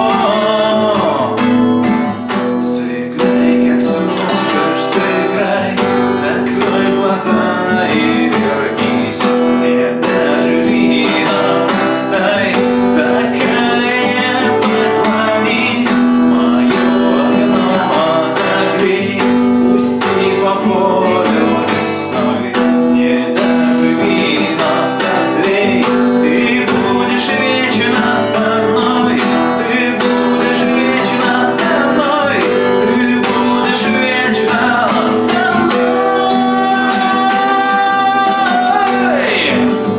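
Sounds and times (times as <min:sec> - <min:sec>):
acoustic guitar strumming: 0:00.0 - 0:39.9
man singing: 0:00.0 - 0:39.9.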